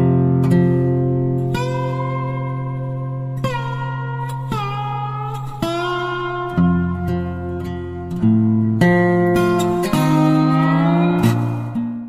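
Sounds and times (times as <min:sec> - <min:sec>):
guitar chords: 0:00.0 - 0:12.0.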